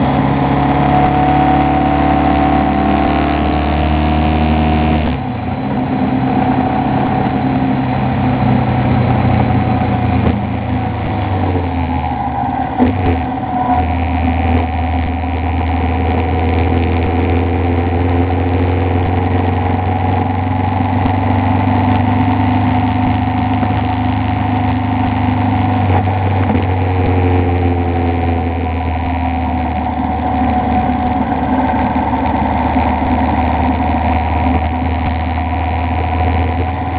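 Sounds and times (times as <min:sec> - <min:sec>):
motorcycle engine running: 0:00.0 - 0:36.9
road noise: 0:00.0 - 0:36.9.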